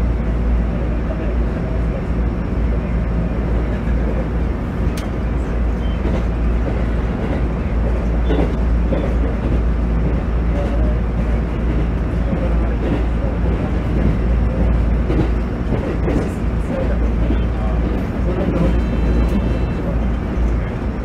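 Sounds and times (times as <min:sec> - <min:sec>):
railcar engine and wheels rumbling: 0:00.0 - 0:21.0.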